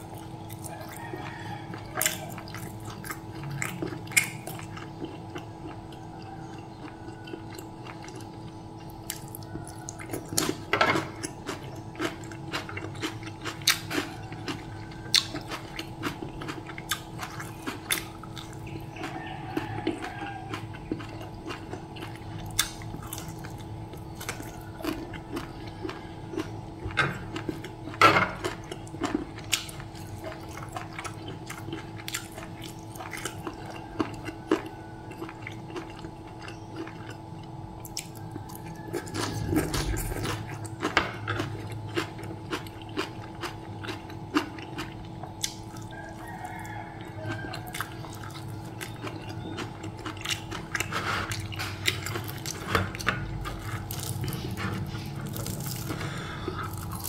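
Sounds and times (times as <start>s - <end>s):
chewing: 0.0s - 57.0s
steady low hum: 0.0s - 57.0s.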